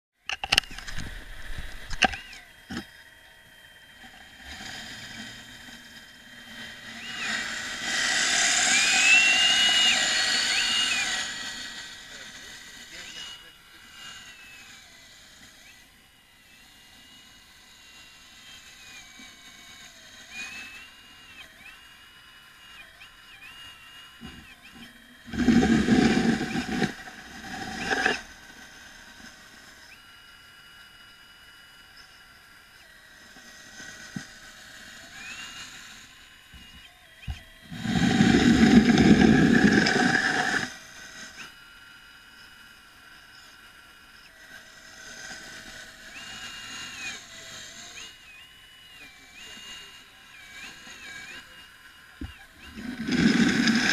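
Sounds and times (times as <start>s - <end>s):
electric drive whining: 0.2s - 53.9s.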